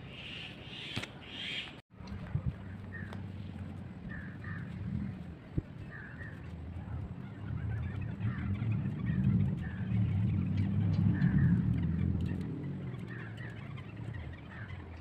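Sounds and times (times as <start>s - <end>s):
low rumble: 2.0s - 15.0s.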